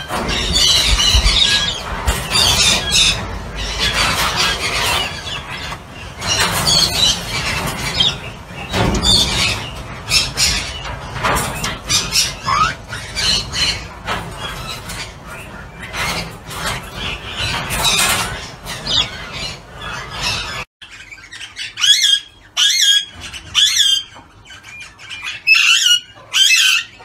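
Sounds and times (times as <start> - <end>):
parrots squawking and chattering: 0.0 - 27.0.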